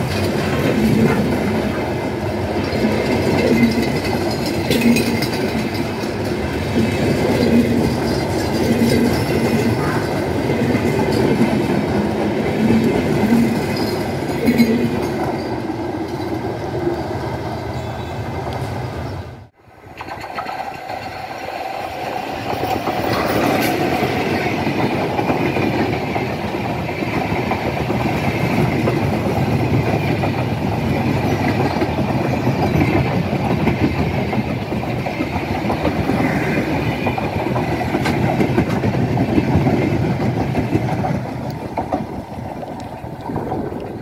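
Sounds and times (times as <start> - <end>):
passenger train passing: 0.0 - 44.0.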